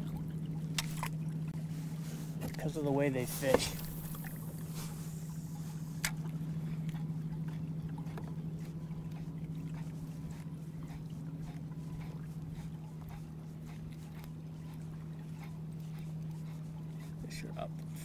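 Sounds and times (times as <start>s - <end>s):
electric trolling motor humming: 0.0s - 18.0s.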